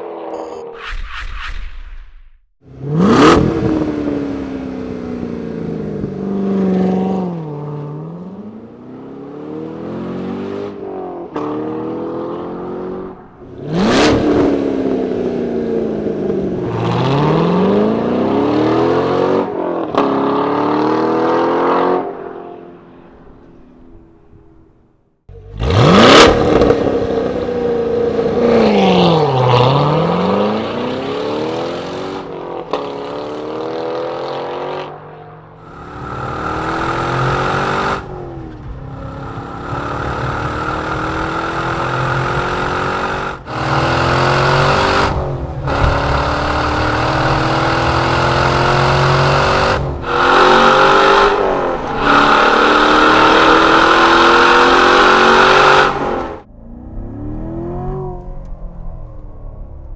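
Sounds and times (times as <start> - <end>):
sports car engine revving: 2.7 - 23.6, 25.3 - 59.9.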